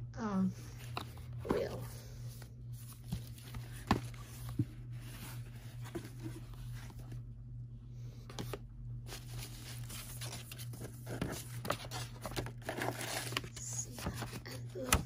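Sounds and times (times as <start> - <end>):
low steady hum: 0.0 - 15.0
paper and card rustling: 0.7 - 7.2, 8.2 - 15.0.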